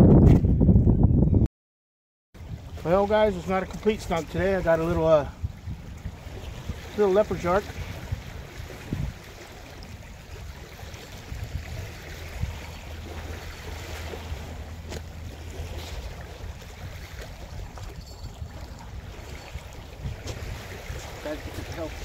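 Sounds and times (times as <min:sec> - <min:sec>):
wind buffeting microphone: 0:00.0 - 0:01.5, 0:02.4 - 0:22.0
small waves lapping shore: 0:02.4 - 0:22.0.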